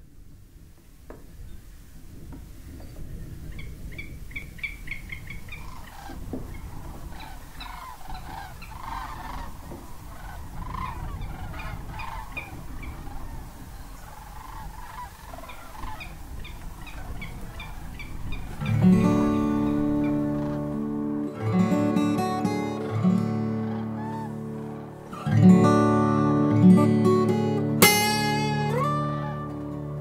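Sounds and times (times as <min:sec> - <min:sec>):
birds calling: 0:02.6 - 0:30.0.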